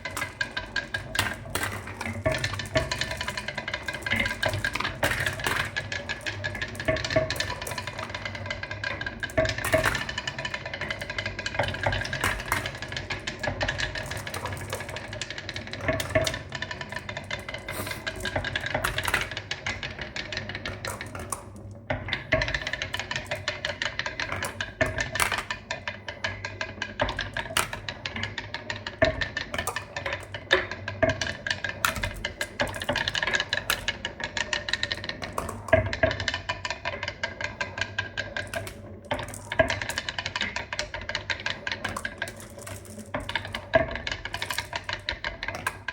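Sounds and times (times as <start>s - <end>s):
marbles clattering down a run: 0.0s - 45.9s.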